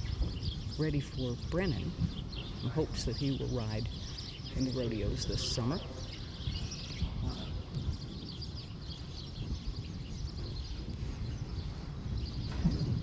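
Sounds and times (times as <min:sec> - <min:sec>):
low wind rumble: 0:00.0 - 0:13.0
small birds chirping: 0:00.0 - 0:13.0.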